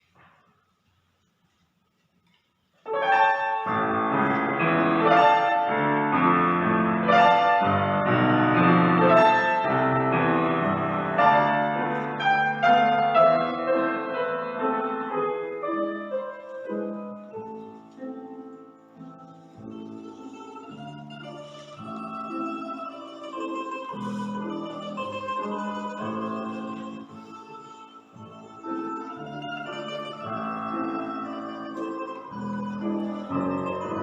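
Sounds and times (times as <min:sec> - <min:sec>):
piano chords and melody: 0:02.9 - 0:27.4, 0:28.0 - 0:34.0.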